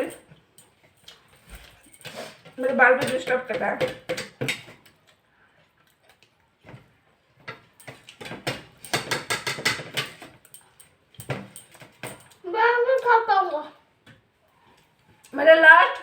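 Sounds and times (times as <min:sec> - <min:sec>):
people chewing food: 0:00.1 - 0:02.5, 0:03.9 - 0:13.1, 0:14.0 - 0:16.0.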